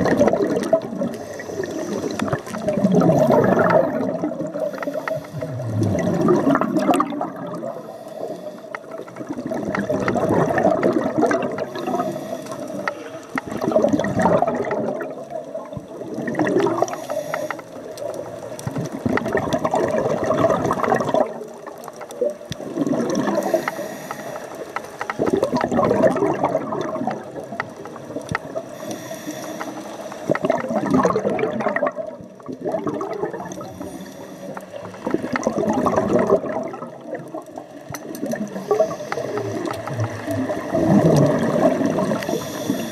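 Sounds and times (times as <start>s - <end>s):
faint steady hum: 0.0s - 42.9s
underwater bubbles gurgling: 0.0s - 42.9s.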